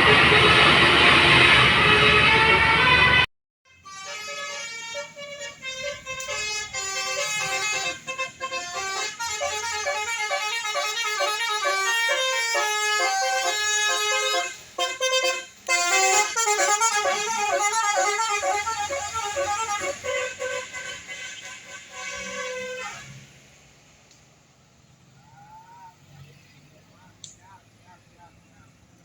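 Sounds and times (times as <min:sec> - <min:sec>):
multi-tone air horn melody: 0:00.0 - 0:23.3.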